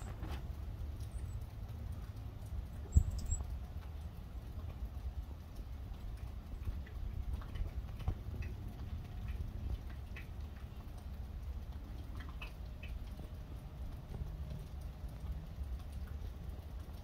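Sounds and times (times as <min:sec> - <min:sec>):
faint high ticks: 0:00.5 - 0:17.0.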